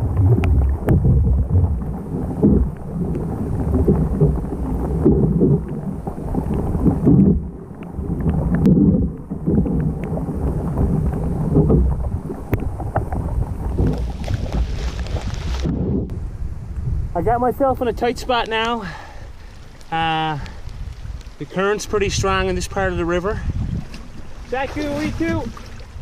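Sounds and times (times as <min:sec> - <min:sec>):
water sloshing along canoe hull: 0:00.0 - 0:16.6, 0:18.3 - 0:26.0
wind buffeting microphone: 0:00.0 - 0:26.0.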